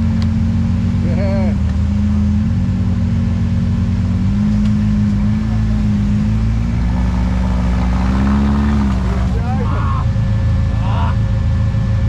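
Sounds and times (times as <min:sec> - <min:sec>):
buggy engine at low revs: 0:00.0 - 0:12.0.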